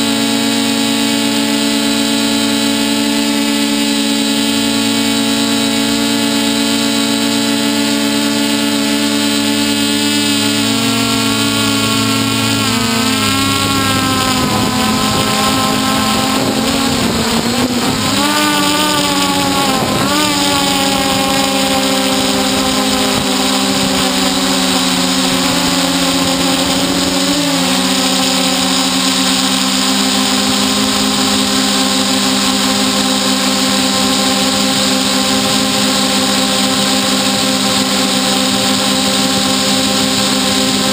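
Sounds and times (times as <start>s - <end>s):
drone motors humming: 0.0s - 40.9s.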